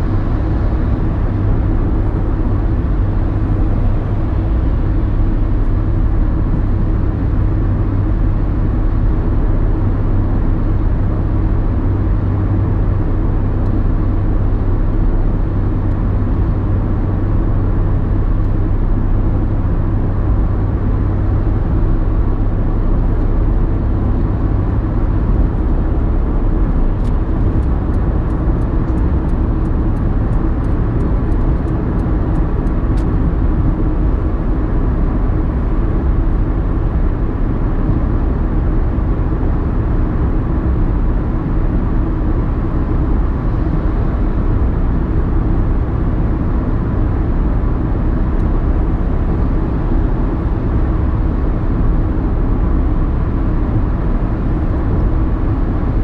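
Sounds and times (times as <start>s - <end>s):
car road noise rumble: 0.0s - 56.0s.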